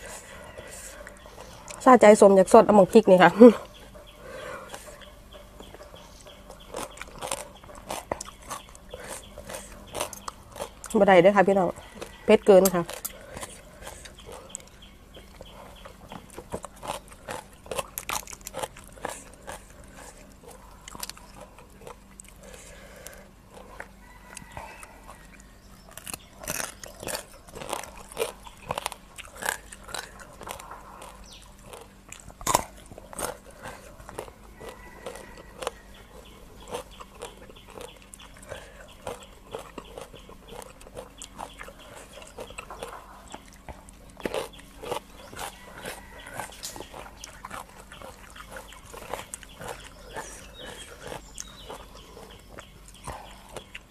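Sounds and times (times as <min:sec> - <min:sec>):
crunching and chewing food: 0:00.0 - 0:53.9.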